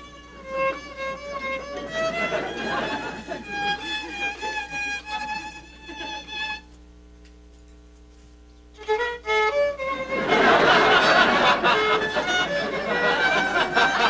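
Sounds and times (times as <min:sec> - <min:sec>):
solo violin tune: 0:00.0 - 0:06.7, 0:08.8 - 0:14.0.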